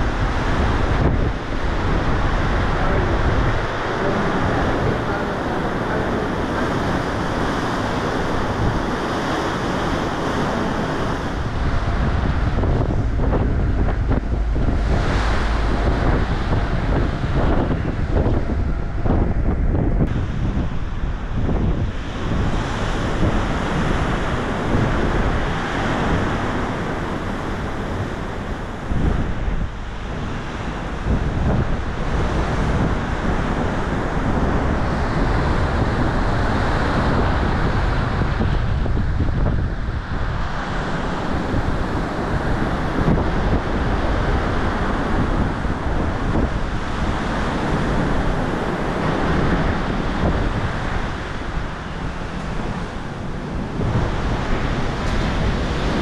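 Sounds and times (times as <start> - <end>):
sea rushing along ship: 0.0 - 56.0
wind rumbling on microphone: 0.0 - 56.0.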